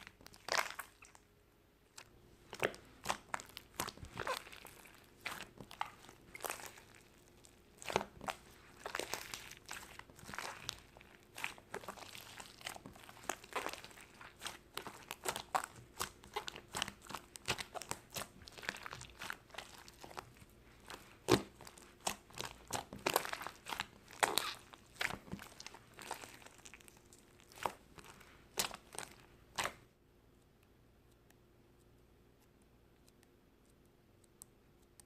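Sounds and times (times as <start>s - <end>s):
crinkling and crunching: 0.0s - 1.2s, 1.9s - 29.9s.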